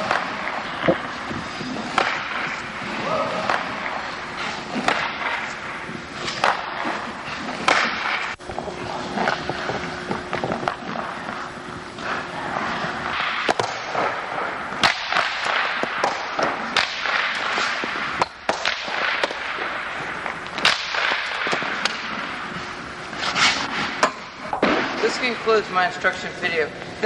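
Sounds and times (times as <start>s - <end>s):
skates scraping on ice: 0.0s - 26.7s
sticks striking pucks: 0.0s - 26.7s.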